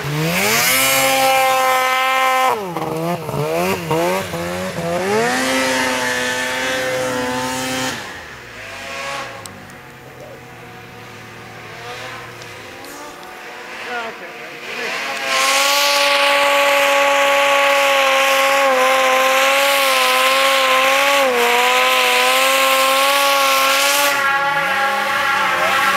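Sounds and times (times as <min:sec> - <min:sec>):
snowmobile engine revving: 0:00.0 - 0:25.9.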